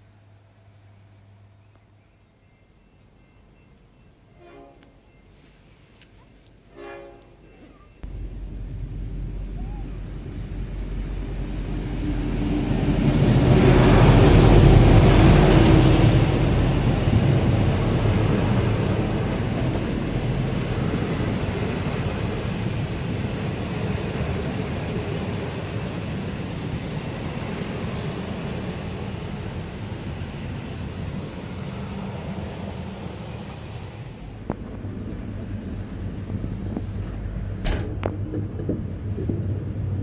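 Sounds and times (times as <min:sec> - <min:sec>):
train running on track: 0:00.0 - 0:40.0.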